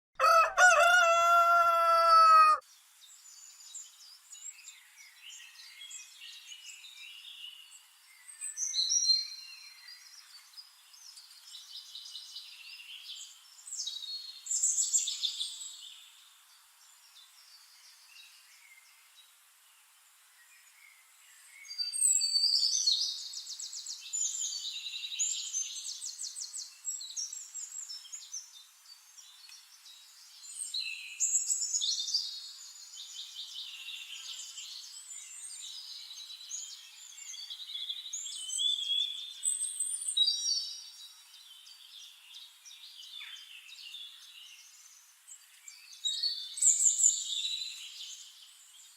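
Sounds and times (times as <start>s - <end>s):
small birds chirping and trilling: 0.2s - 48.9s.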